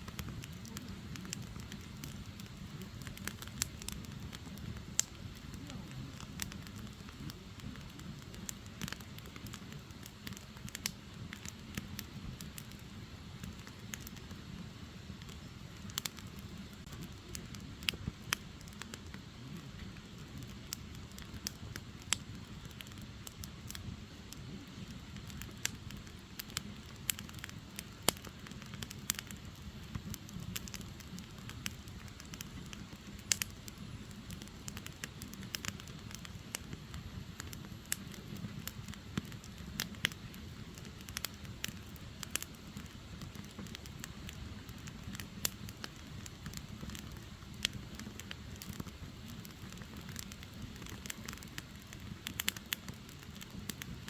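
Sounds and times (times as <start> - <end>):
fire rumbling: 0.0 - 54.0
logs crackling and popping: 0.0 - 54.0.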